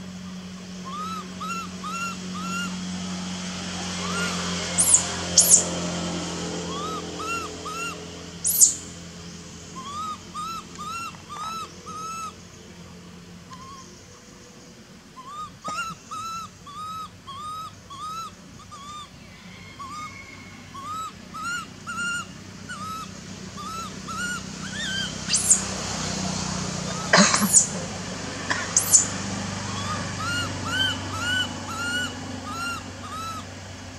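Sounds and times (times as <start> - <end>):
infant monkey crying: 0.0 - 3.0, 3.9 - 8.9, 9.7 - 12.5, 13.4 - 14.1, 15.1 - 25.7, 26.8 - 33.9.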